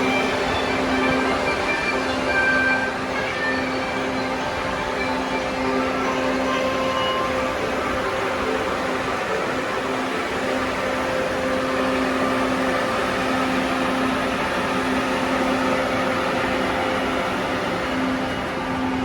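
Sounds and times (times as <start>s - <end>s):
metro train equipment hum: 0.0s - 19.0s.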